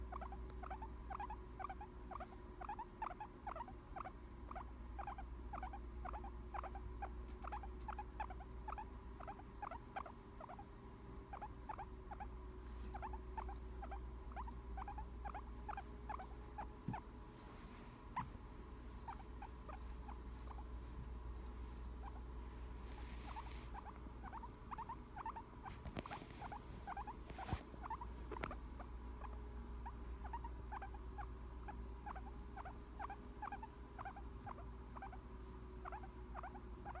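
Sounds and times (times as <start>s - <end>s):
guinea pig squeaking: 0.0s - 10.7s, 11.3s - 17.1s, 18.9s - 37.0s.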